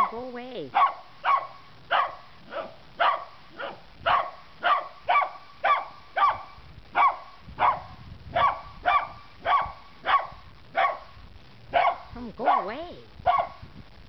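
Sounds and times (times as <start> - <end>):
dog barking: 0.7 - 13.6.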